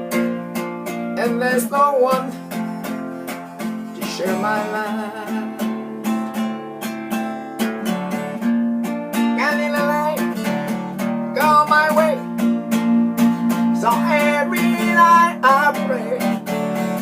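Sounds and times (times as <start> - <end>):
acoustic guitar strumming: 0.0 - 17.0
person singing: 1.1 - 8.4, 9.2 - 12.5, 13.7 - 17.0.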